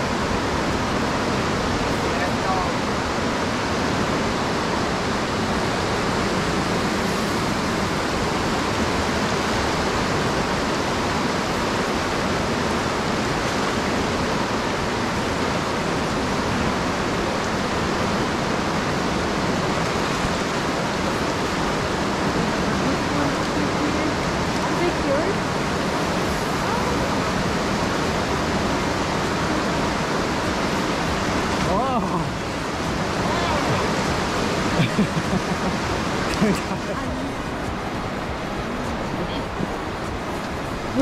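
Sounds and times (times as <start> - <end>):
waterfall and rushing river: 0.0 - 41.0.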